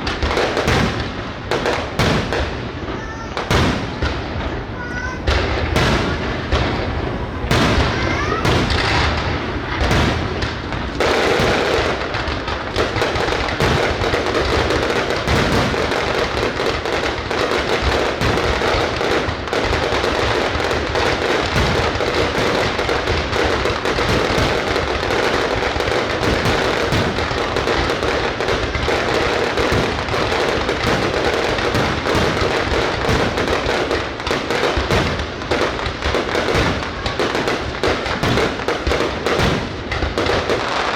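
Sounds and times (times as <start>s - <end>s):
fireworks bangs and cracks: 0.0s - 40.9s.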